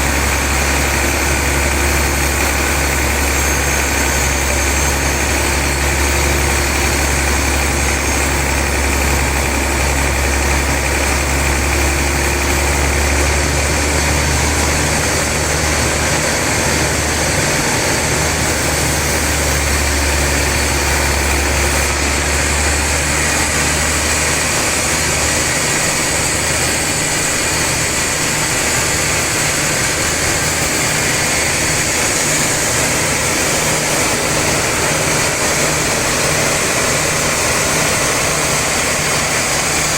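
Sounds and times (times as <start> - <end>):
sawmill machinery sawing log: 0.0 - 39.9.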